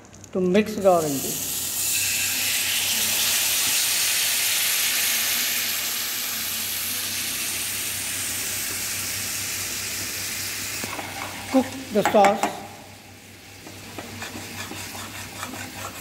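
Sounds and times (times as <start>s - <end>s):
pan sizzling and bubbling: 0.0s - 16.0s.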